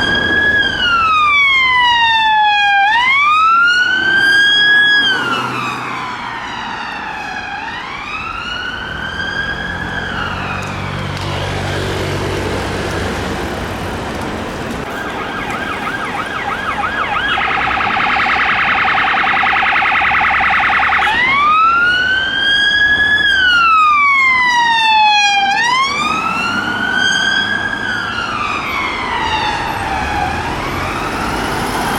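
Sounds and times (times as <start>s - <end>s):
police siren: 0.0s - 12.2s, 14.8s - 31.9s
traffic noise: 0.0s - 31.9s.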